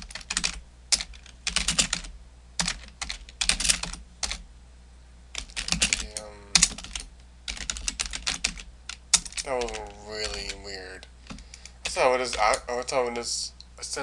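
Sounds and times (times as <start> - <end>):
computer keyboard typing: 0.0 - 4.4, 5.4 - 12.7.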